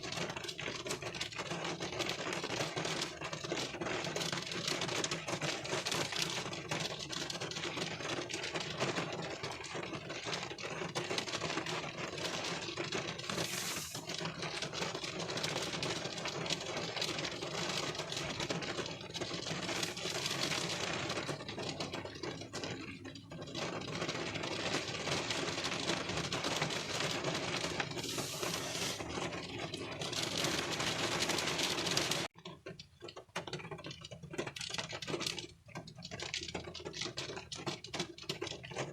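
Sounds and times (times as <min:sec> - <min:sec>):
rain pattering on windshield: 0:00.0 - 0:38.9.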